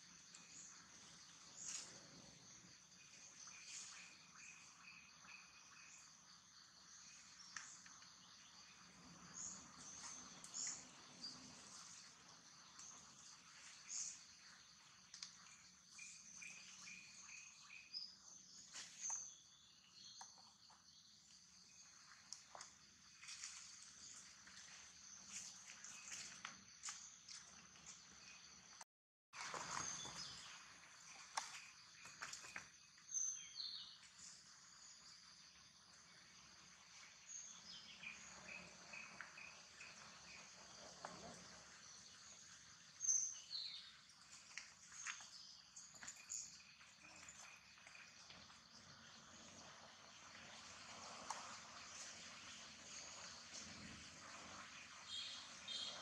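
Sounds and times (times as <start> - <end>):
insects chirping: 0.0 - 28.8, 29.4 - 56.0.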